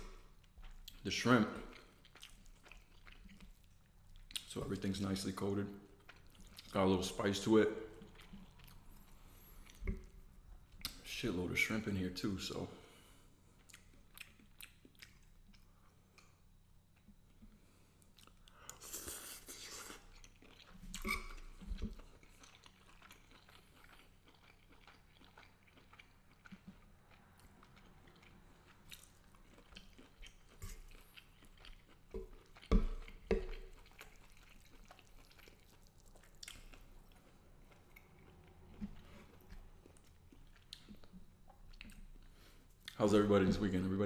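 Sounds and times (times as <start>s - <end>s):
man chewing food: 0.0s - 4.6s, 5.8s - 7.1s, 7.8s - 11.1s, 12.8s - 43.7s.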